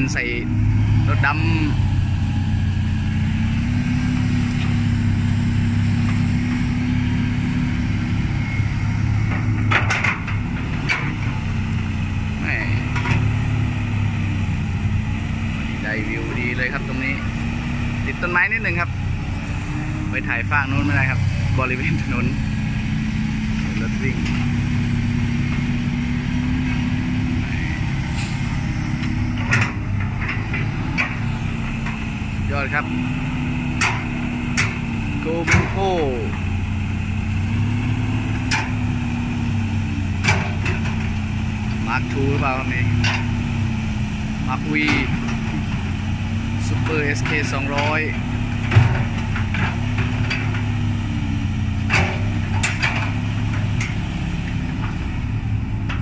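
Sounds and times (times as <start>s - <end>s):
dump truck engine running: 0.0s - 56.0s
excavator diesel engine running: 0.0s - 56.0s.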